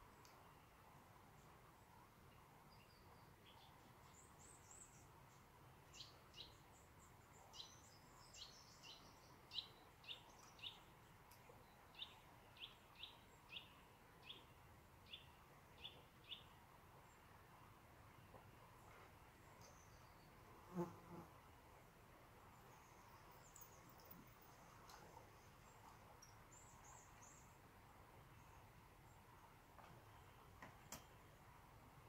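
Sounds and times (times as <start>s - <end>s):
faint outdoor hush: 0.0s - 32.0s.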